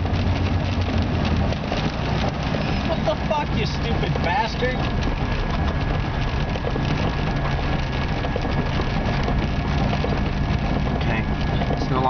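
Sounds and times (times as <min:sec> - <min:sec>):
car engine running: 0:00.0 - 0:12.0
rain hitting windshield: 0:00.0 - 0:12.0.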